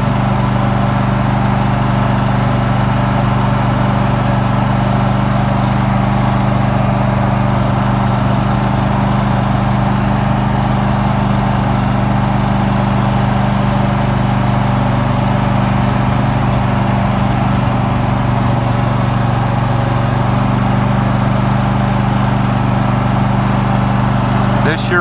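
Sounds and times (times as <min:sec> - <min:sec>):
riding lawn mower engine: 0:00.0 - 0:25.0.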